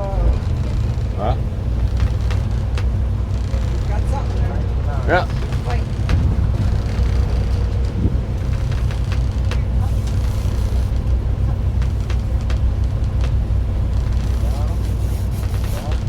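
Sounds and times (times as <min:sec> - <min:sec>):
boat engine droning: 0:00.0 - 0:16.0
scattered clicks: 0:00.0 - 0:16.0.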